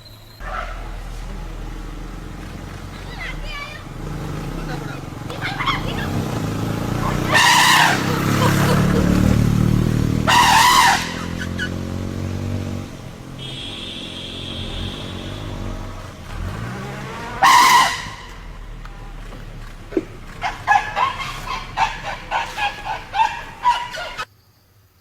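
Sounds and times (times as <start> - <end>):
vehicle engine revving: 0.0 - 24.3
elephant trumpeting: 0.4 - 24.3.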